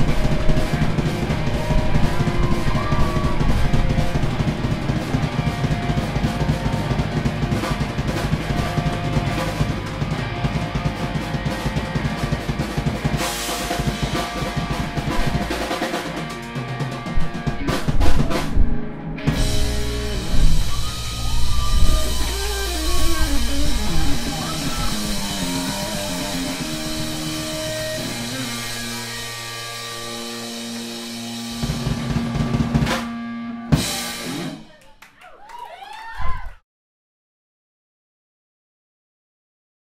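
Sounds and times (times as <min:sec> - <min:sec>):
gliding bending lead guitar line: 0:00.0 - 0:34.6
electric guitars: 0:00.0 - 0:34.7
bass guitar: 0:00.0 - 0:34.8
drum kit: 0:00.0 - 0:34.8.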